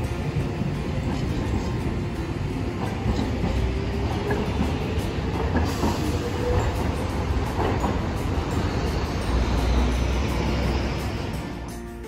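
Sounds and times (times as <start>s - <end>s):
streetcar wheels rumbling on rails: 0.0s - 12.0s.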